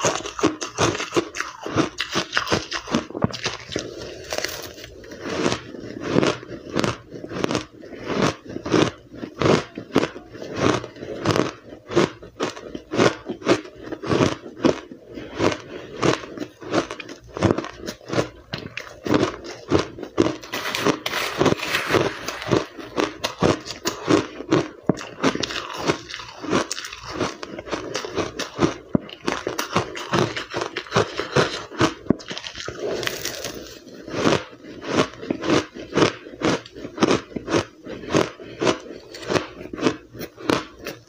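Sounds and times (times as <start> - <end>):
chewing crushed ice: 0.0 - 41.0.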